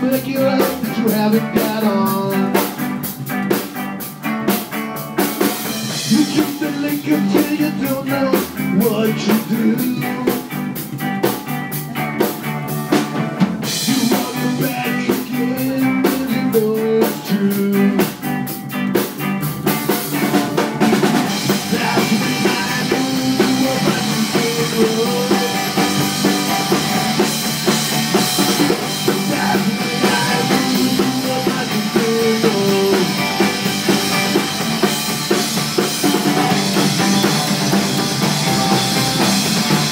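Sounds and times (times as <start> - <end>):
rockabilly band playing: 0.0 - 39.9.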